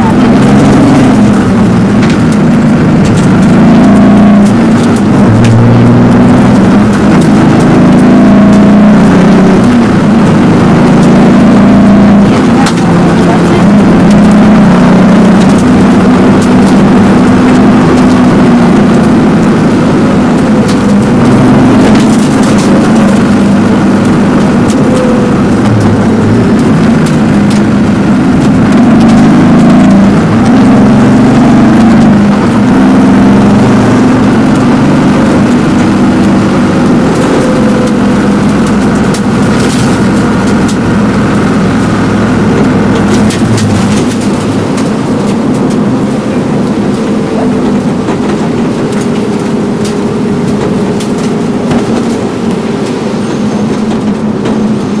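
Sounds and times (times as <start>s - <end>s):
rally car engine revving: 0.0s - 55.0s
road and cockpit noise: 0.0s - 55.0s.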